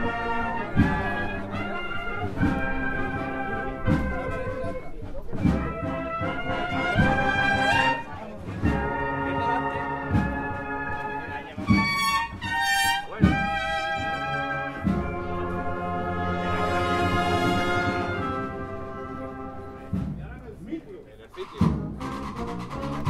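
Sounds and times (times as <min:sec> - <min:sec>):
brass holding chords: 0:00.0 - 0:20.0
bass drum beats: 0:02.2 - 0:20.8.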